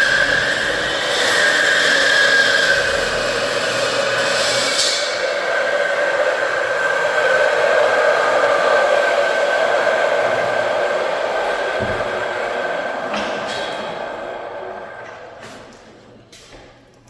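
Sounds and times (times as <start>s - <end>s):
electric saw cutting: 0.0s - 15.5s.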